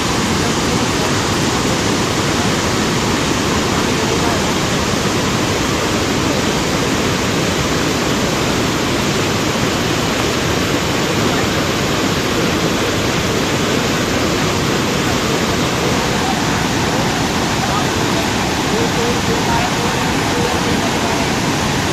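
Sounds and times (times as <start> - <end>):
river rushing in flood: 0.0 - 21.9.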